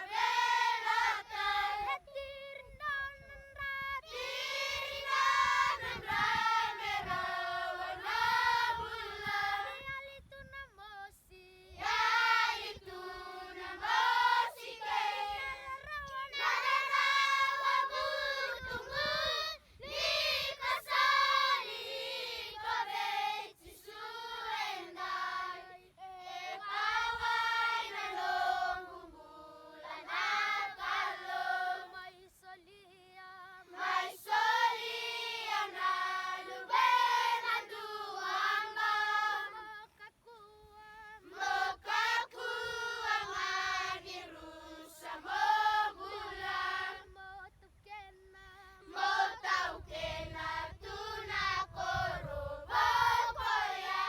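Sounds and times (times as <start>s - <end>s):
children's choir singing: 0.0s - 2.0s, 4.1s - 9.9s, 11.8s - 32.5s, 33.6s - 40.4s, 41.1s - 47.4s, 48.6s - 54.0s.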